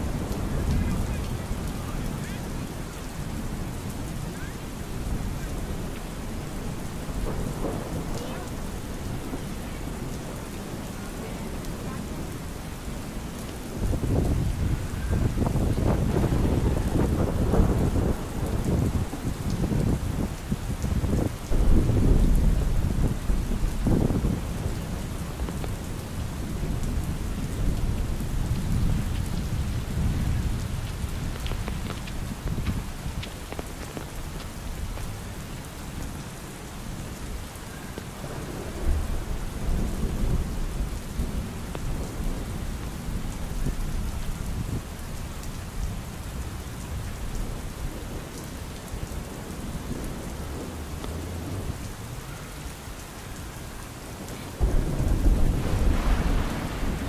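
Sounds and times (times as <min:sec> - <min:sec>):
rain falling: 0:00.0 - 0:57.0
thunder rumbling: 0:00.0 - 0:57.0.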